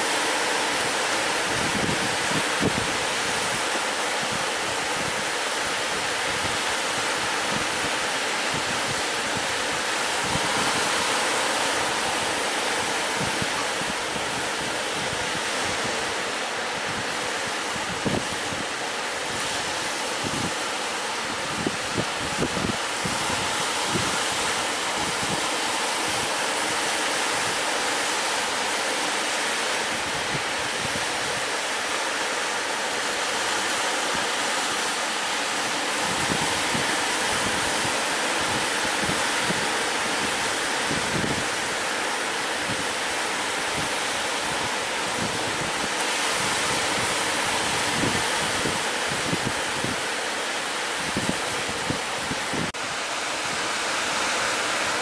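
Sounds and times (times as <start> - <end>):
sea surf breaking: 0.0 - 55.0
wind buffeting microphone: 0.7 - 28.3, 29.8 - 31.8, 32.4 - 55.0.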